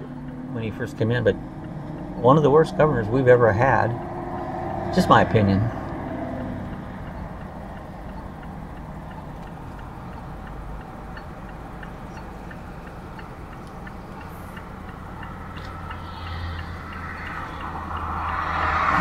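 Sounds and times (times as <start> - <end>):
turn signal clicking: 0.0 - 5.2, 5.8 - 19.0
car engine idling: 0.0 - 19.0.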